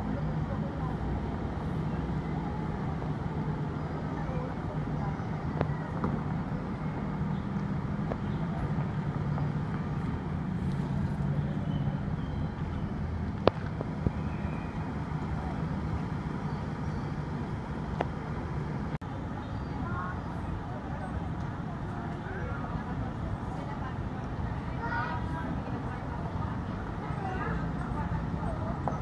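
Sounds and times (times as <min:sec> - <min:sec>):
muffled diesel bus engine: 0:00.0 - 0:29.0.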